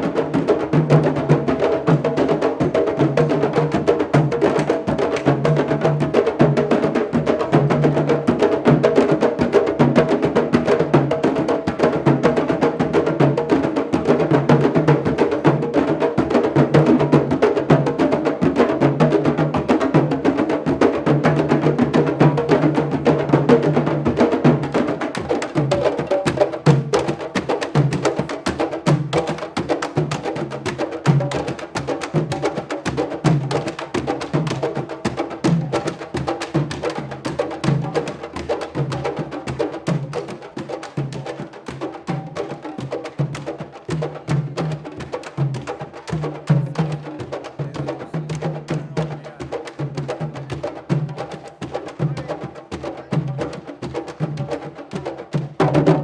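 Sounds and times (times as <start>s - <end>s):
drum ensemble playing: 0.0s - 56.0s.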